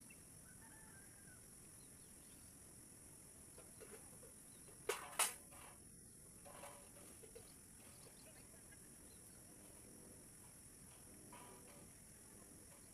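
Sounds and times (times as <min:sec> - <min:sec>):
insects chirring: 0:00.0 - 0:12.9.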